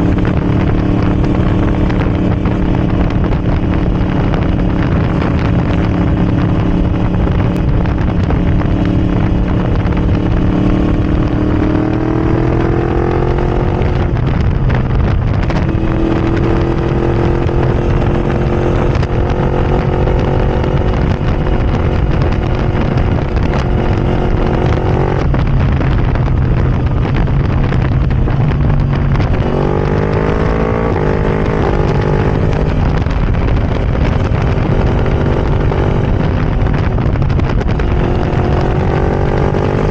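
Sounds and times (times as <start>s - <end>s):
motorcycle engine revving loud: 0.0s - 39.9s.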